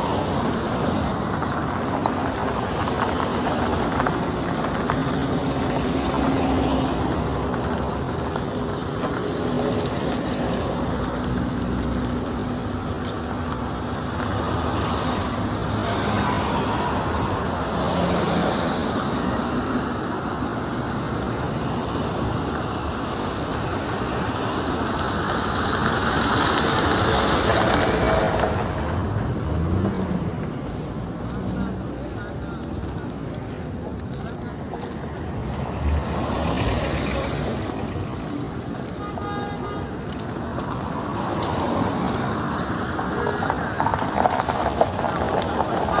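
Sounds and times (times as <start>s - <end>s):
rushing road noise: 0.0s - 46.0s
vehicle engine hum: 0.0s - 46.0s.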